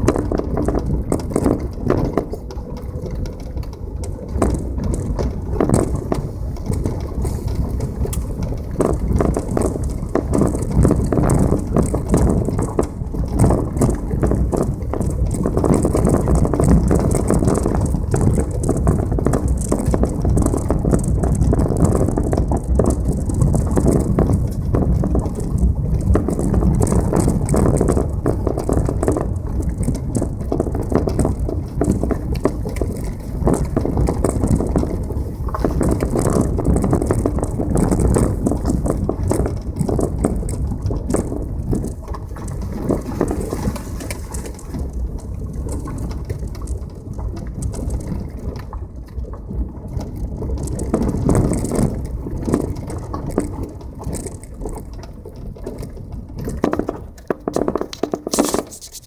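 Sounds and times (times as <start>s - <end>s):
car rattles and knocks: 0.0s - 59.0s
tyres rumbling on gravel: 0.0s - 59.0s.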